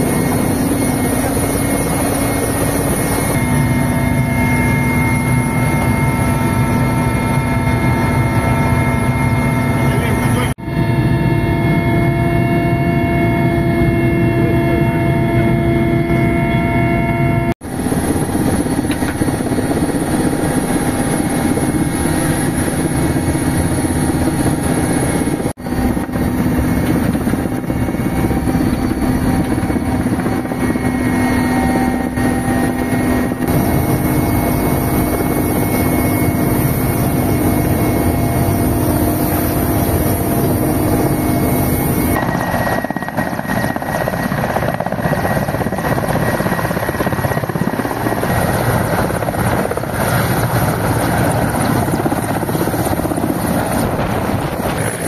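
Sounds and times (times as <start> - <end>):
helicopter rotor noise: 0.0 - 55.0
turbine engines whining: 0.0 - 55.0.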